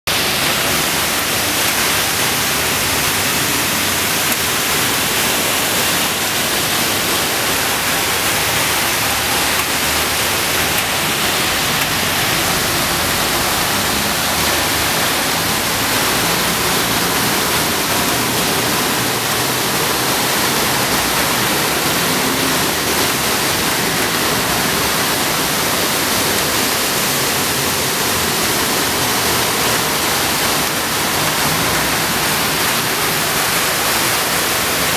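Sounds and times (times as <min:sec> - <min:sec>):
floodwater rushing across road: 0:00.1 - 0:34.9
heavy rain pouring: 0:00.1 - 0:34.9.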